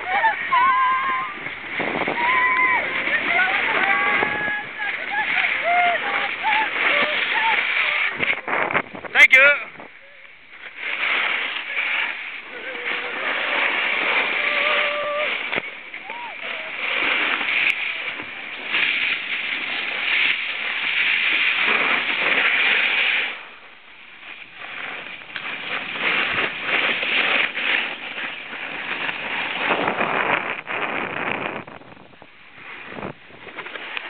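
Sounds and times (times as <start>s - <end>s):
skis scraping over snow: 0.0s - 34.0s.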